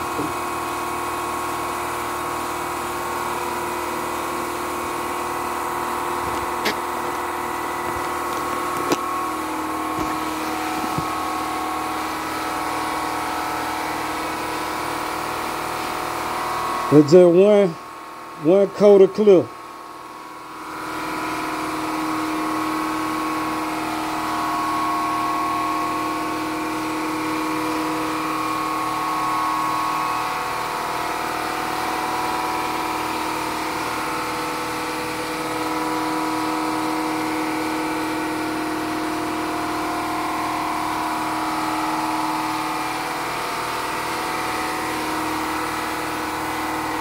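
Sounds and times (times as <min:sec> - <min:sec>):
air compressor running: 0:00.0 - 0:47.0.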